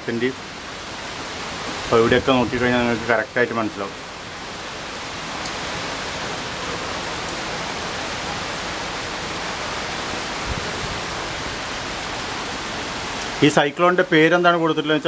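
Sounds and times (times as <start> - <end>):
strong wind: 0.0 - 13.4
heavy rain: 0.0 - 15.0.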